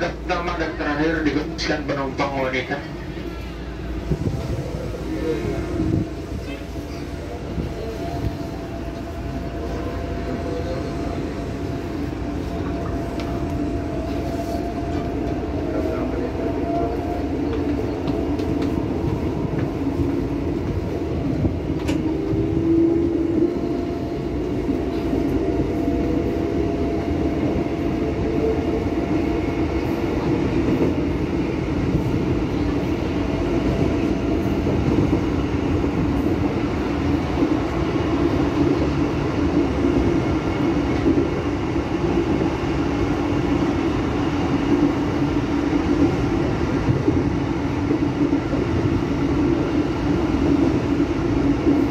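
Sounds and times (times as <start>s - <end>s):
train wheels rumbling on track: 0.0s - 51.9s.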